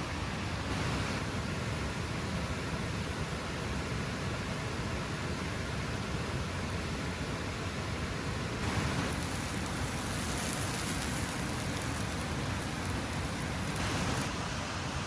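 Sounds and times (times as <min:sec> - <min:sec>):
steady rainfall hiss: 0:00.0 - 0:15.0.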